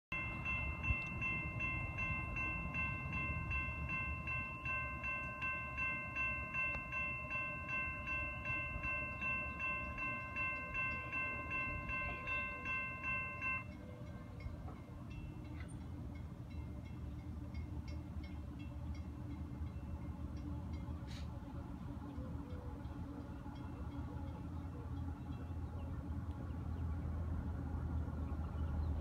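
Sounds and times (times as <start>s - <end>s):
crossing warning bell ringing: 0.1s - 26.3s.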